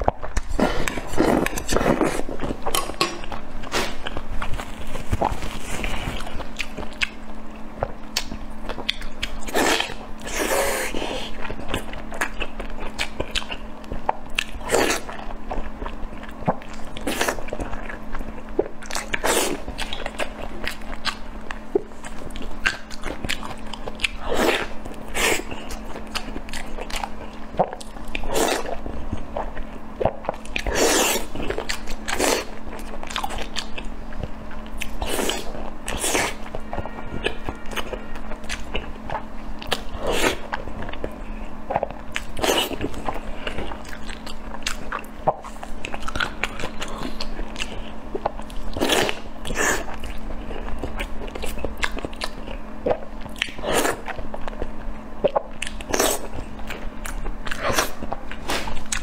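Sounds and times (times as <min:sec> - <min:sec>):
steady low hum: 0:00.0 - 0:59.0
wet chewing and biting: 0:00.0 - 0:59.0.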